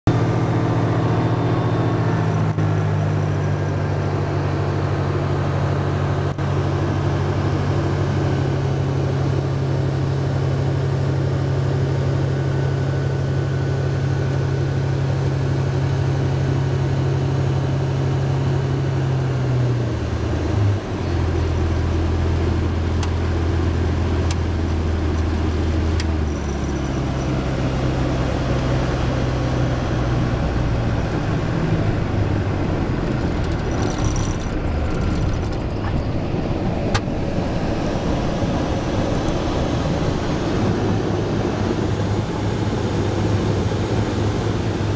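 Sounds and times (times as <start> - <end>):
plane engine running: 0.1 - 44.9.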